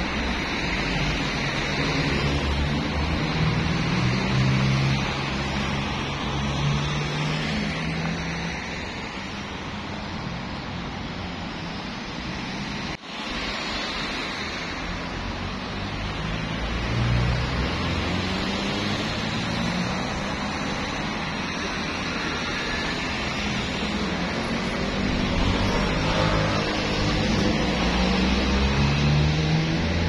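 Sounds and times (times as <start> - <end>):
road traffic rushing: 0.0 - 30.0.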